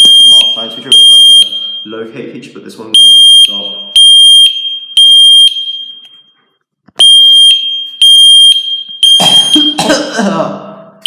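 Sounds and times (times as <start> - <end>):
smoke alarm beeps: 0.0 - 2.0, 3.0 - 9.9.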